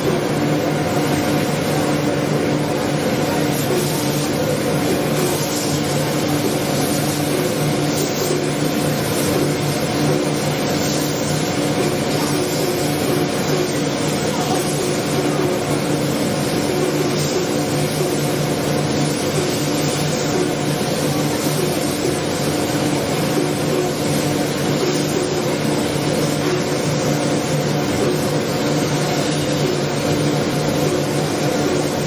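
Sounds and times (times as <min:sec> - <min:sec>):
machinery hum with fixed tones: 0:00.0 - 0:32.0.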